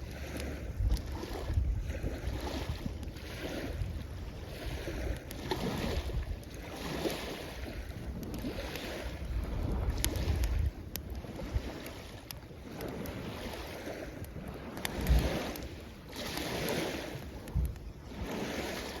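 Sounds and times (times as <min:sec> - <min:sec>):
campfire crackling: 0:00.0 - 0:19.0
waves washing onto shore: 0:00.0 - 0:19.0
wind thumping on microphone: 0:00.0 - 0:19.0.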